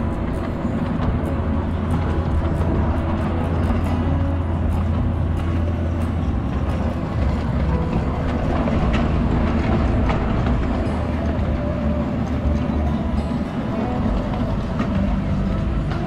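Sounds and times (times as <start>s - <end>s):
miniature train rumbling on track: 0.0s - 16.0s.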